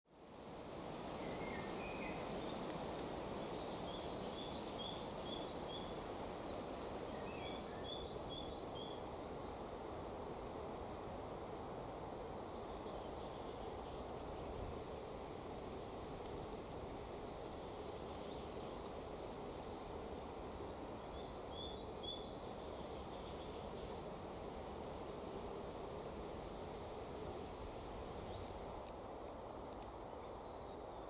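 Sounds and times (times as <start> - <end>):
forest background noise: 0.0 - 31.0.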